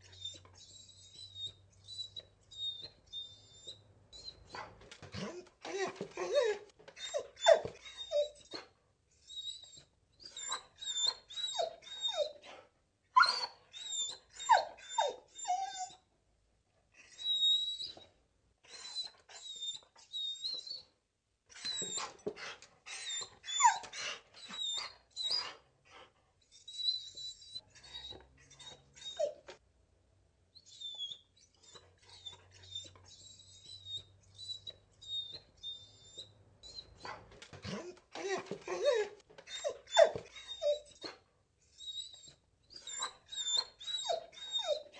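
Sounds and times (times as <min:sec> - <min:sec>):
dog whining and whimpering: 0:00.0 - 0:12.6, 0:13.2 - 0:16.1, 0:17.0 - 0:20.9, 0:21.5 - 0:29.6, 0:30.6 - 0:44.9.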